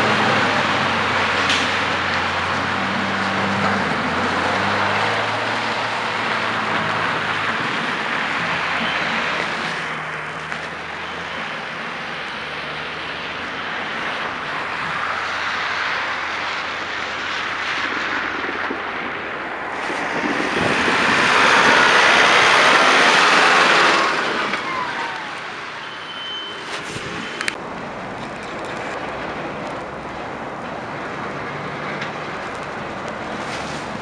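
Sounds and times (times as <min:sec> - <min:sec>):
street traffic on slushy roads: 0:00.0 - 0:34.0
tractor plowing snow: 0:00.0 - 0:34.0.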